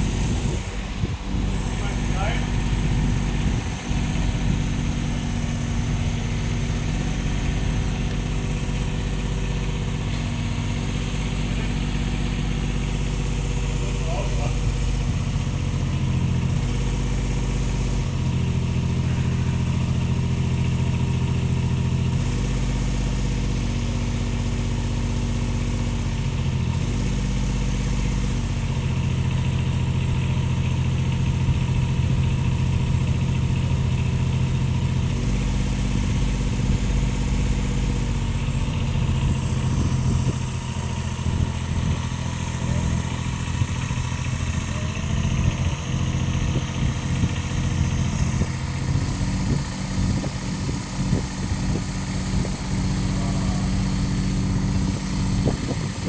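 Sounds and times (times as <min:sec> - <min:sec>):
crane engine running: 0:00.0 - 0:56.0.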